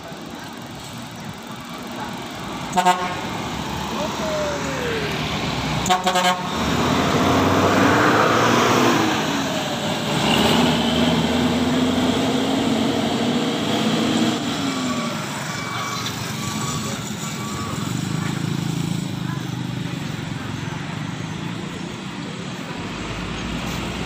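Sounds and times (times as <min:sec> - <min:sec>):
coach diesel engine accelerating: 0:00.0 - 0:24.0.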